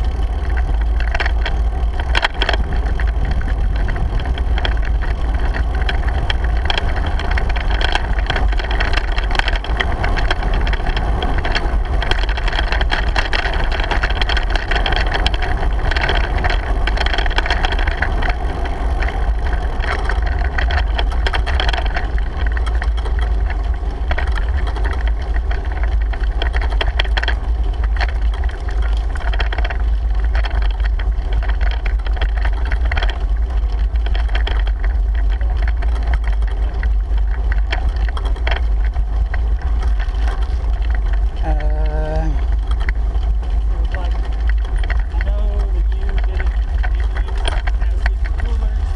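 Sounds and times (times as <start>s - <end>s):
bicycle rattles and clicks: 0.0s - 48.9s
wind rumble over microphone: 0.0s - 48.9s.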